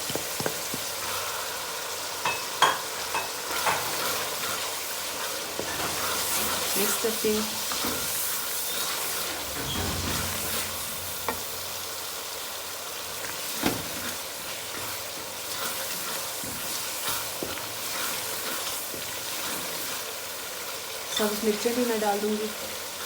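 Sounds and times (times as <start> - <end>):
masala sizzling in a pot: 0.0 - 23.0.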